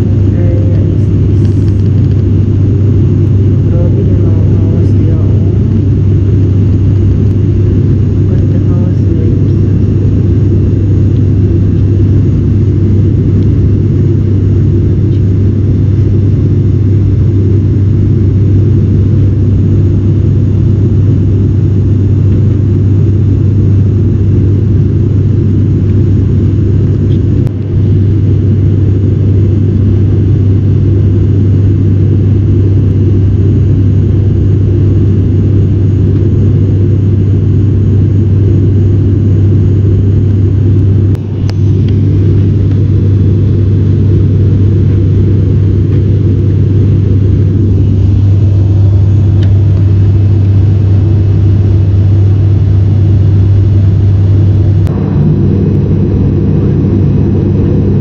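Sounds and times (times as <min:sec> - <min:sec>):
airliner cabin propeller drone: 0:00.0 - 0:58.0.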